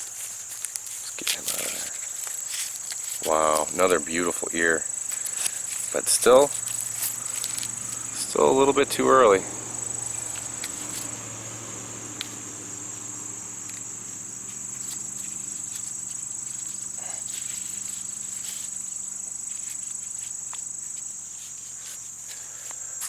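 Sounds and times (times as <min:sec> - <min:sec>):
corn husks rustling: 0:00.0 - 0:23.0
high-pitched insect chorus: 0:00.0 - 0:23.0.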